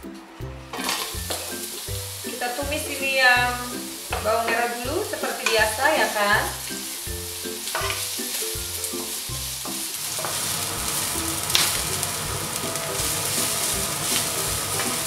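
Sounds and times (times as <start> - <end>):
onion sizzling in hot oil: 0.6 - 15.0
wooden spatula stirring in wok: 0.7 - 15.0.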